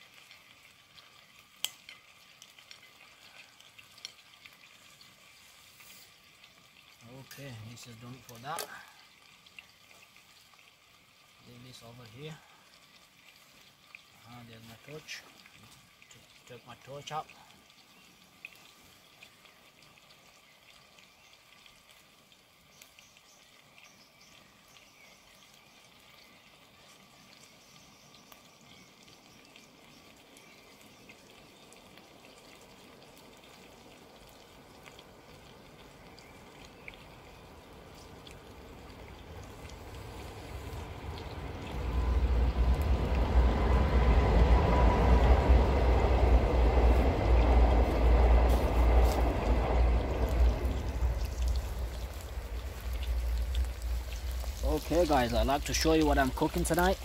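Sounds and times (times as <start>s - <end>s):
pot simmering on a stove: 0.0s - 57.0s.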